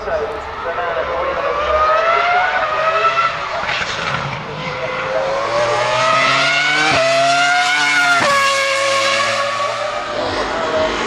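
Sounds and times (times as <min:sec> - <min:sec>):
race car engine accelerating: 0:00.3 - 0:11.0.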